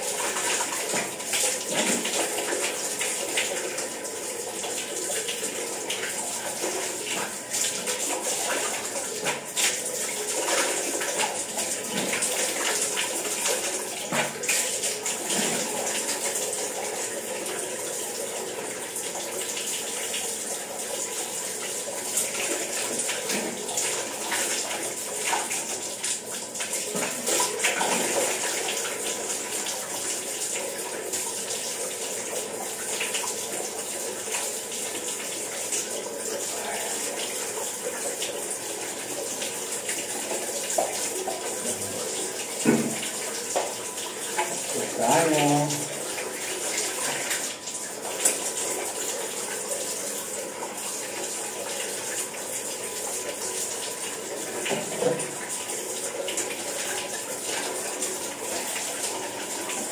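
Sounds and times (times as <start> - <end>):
water running from a tap: 0.0 - 59.9.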